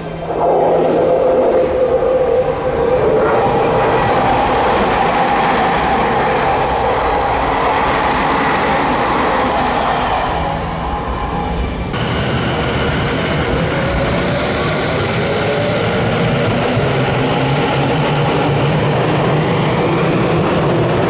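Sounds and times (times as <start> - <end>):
faint train whine: 0.0 - 21.0
train wheels rushing on rails: 0.0 - 21.0.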